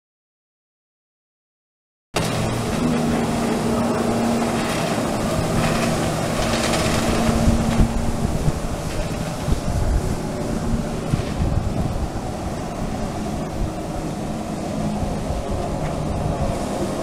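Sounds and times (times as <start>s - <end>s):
watercraft engine drone: 2.2s - 17.0s
wind on microphone: 2.2s - 17.0s
hiss of water jets: 2.3s - 17.0s.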